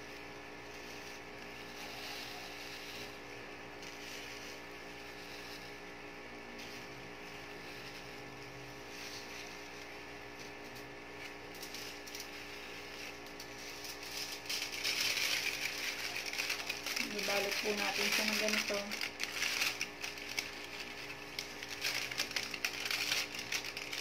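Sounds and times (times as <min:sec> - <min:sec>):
aluminium foil crinkling: 0:00.0 - 0:24.0
electrical hum: 0:00.0 - 0:24.0.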